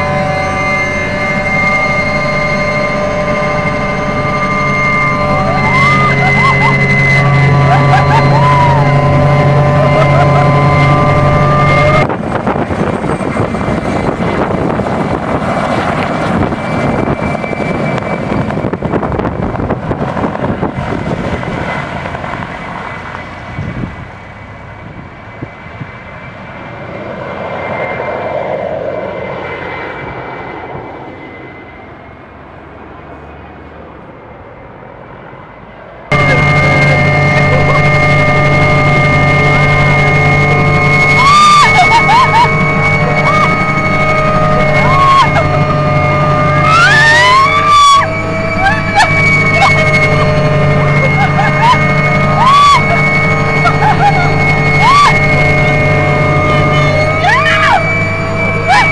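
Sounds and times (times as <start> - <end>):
helicopter engine whine inside cabin: 0.0 - 58.9
helicopter flying overhead: 0.0 - 58.9.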